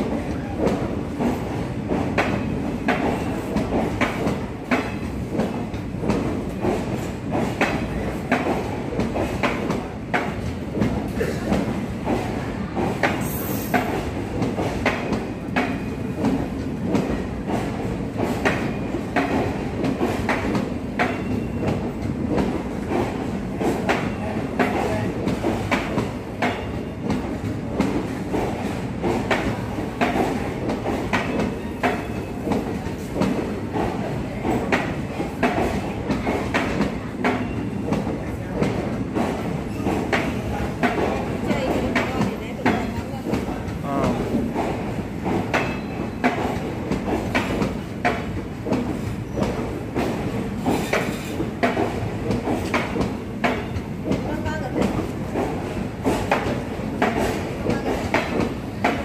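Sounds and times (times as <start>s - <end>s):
train coaches rumbling past: 0.0s - 59.0s.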